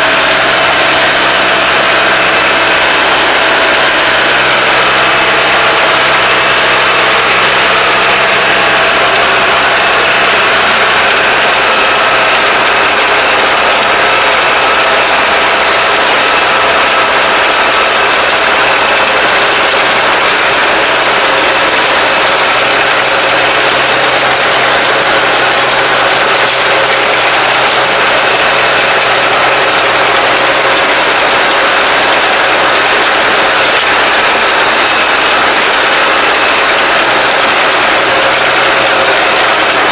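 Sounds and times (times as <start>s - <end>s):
baler machinery din: 0.0s - 39.9s
tractor diesel engine running: 0.0s - 39.9s.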